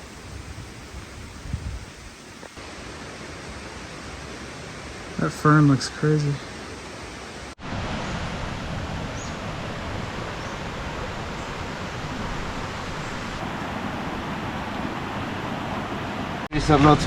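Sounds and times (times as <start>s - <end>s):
forest stream rushing: 0.0s - 17.0s.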